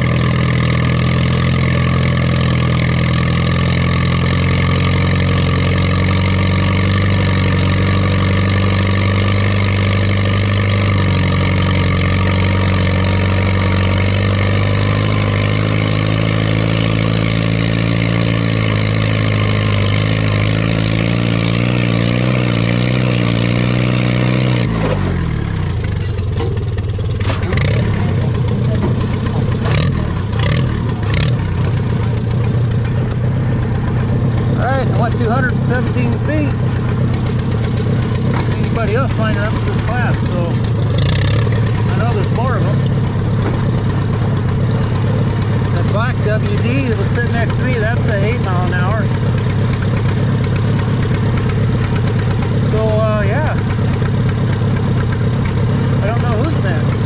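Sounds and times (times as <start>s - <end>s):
tractor engine labouring under load: 0.0s - 57.0s.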